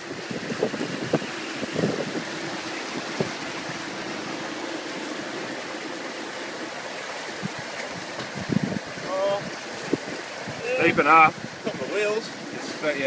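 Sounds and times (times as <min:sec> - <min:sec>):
floodwater rushing along vehicle: 0:00.0 - 0:13.0.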